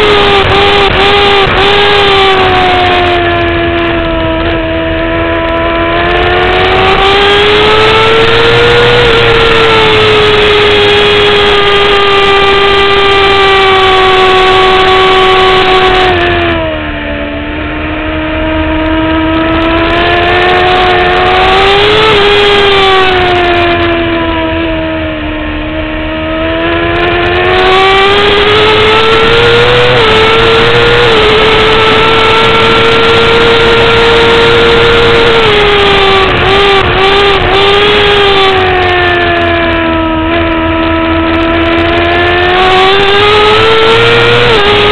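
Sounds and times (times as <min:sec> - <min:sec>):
motorcycle downshifts: 0:00.0 - 0:44.9
motorcycle engine at high revs: 0:00.0 - 0:44.9
wind rushing over microphone: 0:00.0 - 0:44.9.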